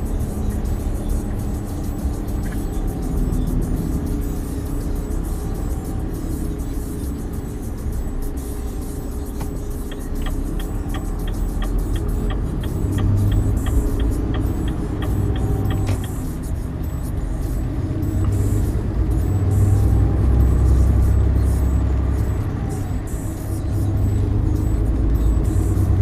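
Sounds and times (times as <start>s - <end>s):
truck diesel engine accelerating: 0.0s - 26.0s
turn indicator ticking: 0.0s - 26.0s.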